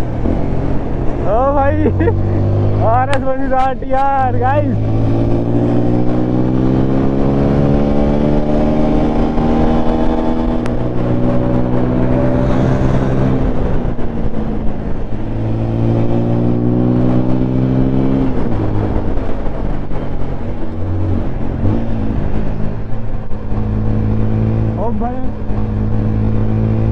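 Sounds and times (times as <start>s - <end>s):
motorcycle engine accelerating: 0.0s - 26.9s
wind rush on microphone: 0.0s - 26.9s.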